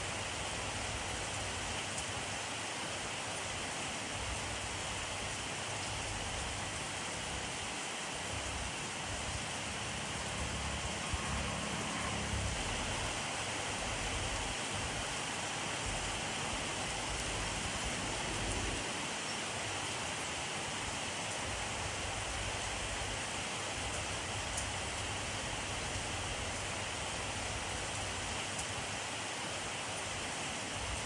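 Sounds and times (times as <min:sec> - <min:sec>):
steady rainfall: 0:00.0 - 0:31.0.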